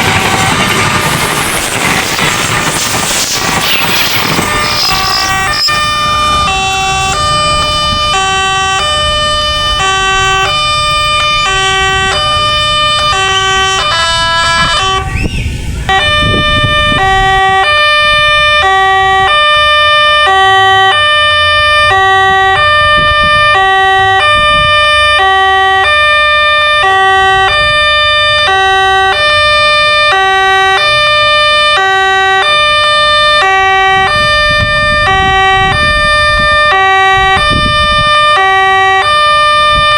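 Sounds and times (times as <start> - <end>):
level crossing alarm: 3.6 - 15.2, 15.9 - 39.9.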